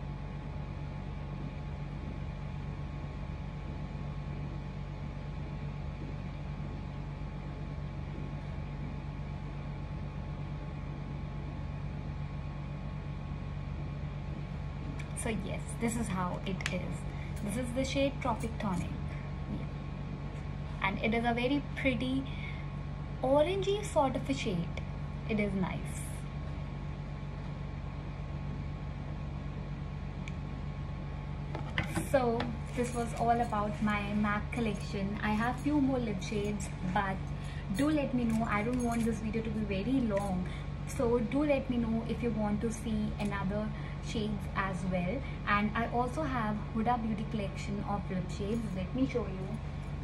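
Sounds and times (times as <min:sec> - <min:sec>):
low machine hum with hiss: 0:00.0 - 0:50.0.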